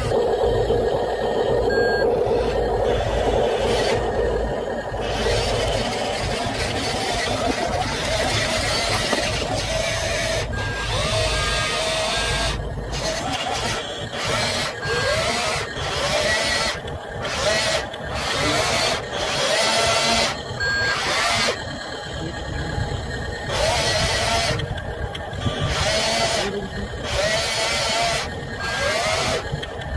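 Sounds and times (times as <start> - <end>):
small electric motors whirring: 0.0 - 29.9.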